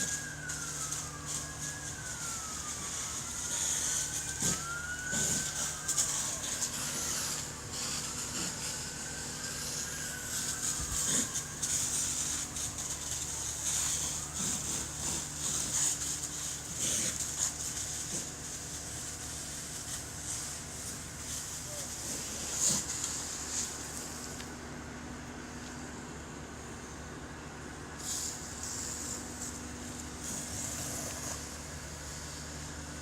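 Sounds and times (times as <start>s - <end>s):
emergency vehicle siren wailing: 0.0s - 33.0s.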